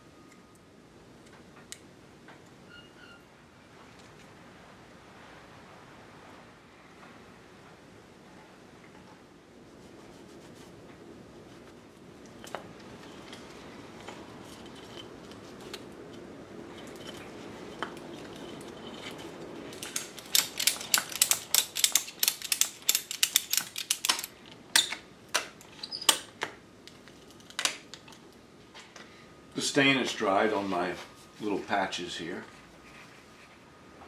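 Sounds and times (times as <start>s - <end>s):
soft rustling of parts: 3.6s - 5.6s, 6.5s - 34.0s.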